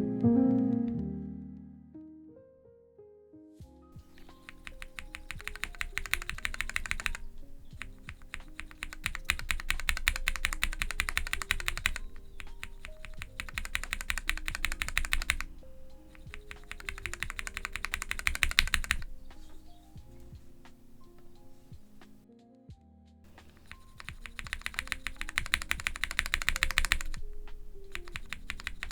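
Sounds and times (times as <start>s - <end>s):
soft background music: 0.0s - 28.9s
mechanical keyboard typing: 4.0s - 22.2s, 23.3s - 28.9s.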